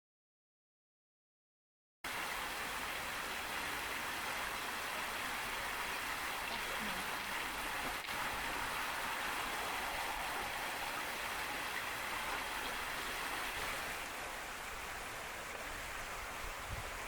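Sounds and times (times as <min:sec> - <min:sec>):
running water rushing: 0:02.1 - 0:17.0.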